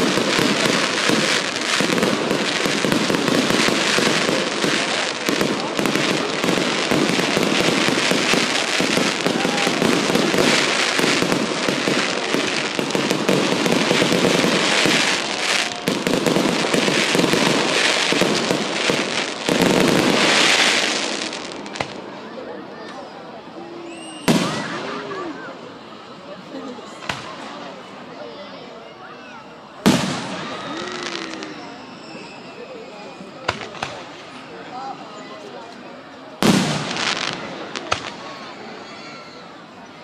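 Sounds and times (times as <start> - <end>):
fireworks banging and crackling: 0.0 - 22.2, 24.2 - 25.4, 26.8 - 27.8, 29.8 - 34.6, 35.4 - 38.8.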